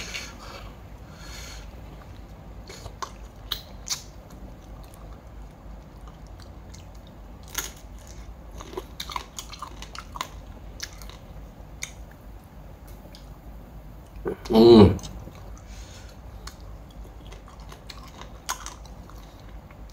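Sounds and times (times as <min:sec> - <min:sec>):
person chewing with wet crunches: 0:01.6 - 0:13.3, 0:15.0 - 0:19.9.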